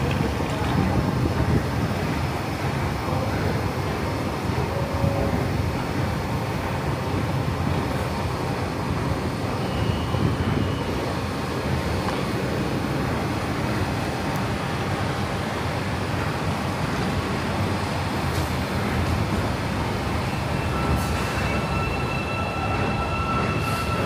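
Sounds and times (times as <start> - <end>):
metro platform rumble and hiss: 0.0 - 24.0.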